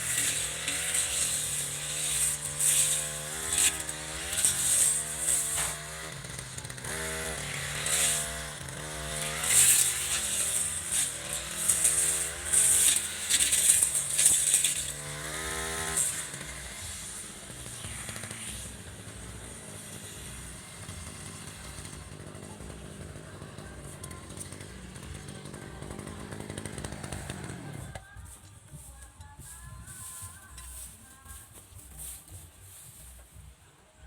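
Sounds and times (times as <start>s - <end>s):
brush cutter engine revving: 0.0s - 28.1s.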